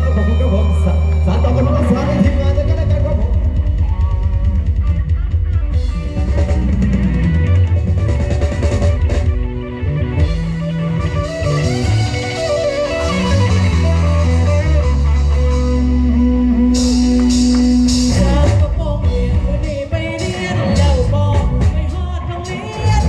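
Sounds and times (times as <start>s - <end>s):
live band music heavy bass: 0.0s - 23.0s.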